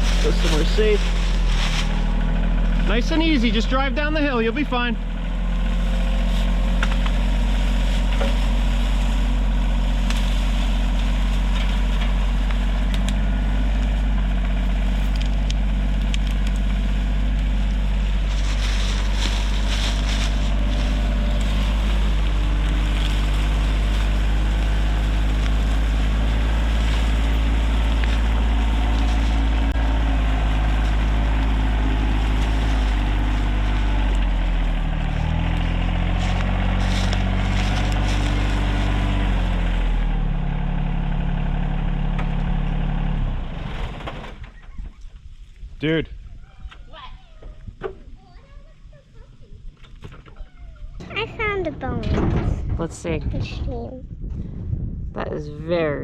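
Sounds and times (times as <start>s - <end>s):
tractor diesel engine running: 0.0s - 46.0s, 50.4s - 55.0s.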